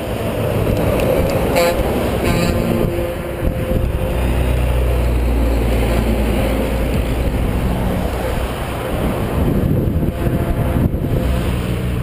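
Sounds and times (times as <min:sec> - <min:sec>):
truck diesel engine drone: 0:00.0 - 0:12.0
tyre and road noise: 0:00.0 - 0:12.0.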